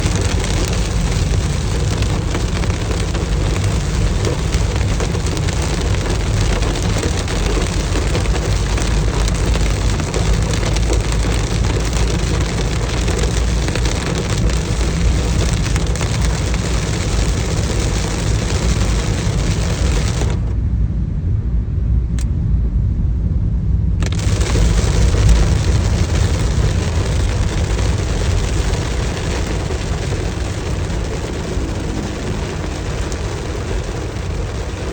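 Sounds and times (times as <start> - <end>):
heavy rain hiss: 0.0 - 20.6, 24.0 - 34.9
low rumble: 0.0 - 34.9.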